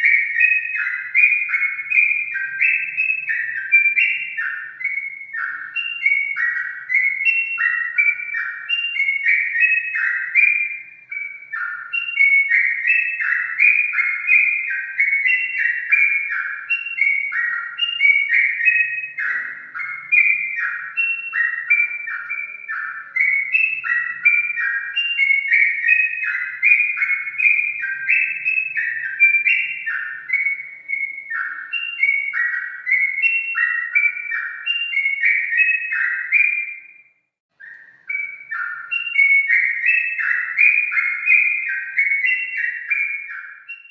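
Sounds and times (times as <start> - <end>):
bird singing whistled notes: 0.0 - 43.9.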